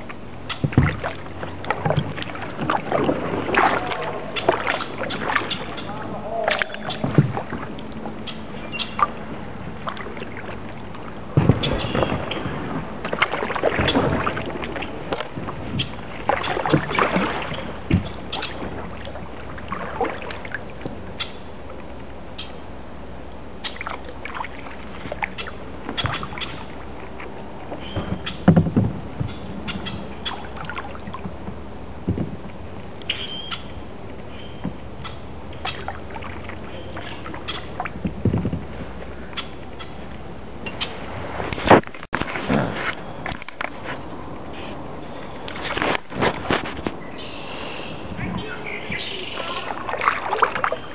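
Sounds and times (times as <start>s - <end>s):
paddle splashing in water: 0.0s - 50.9s.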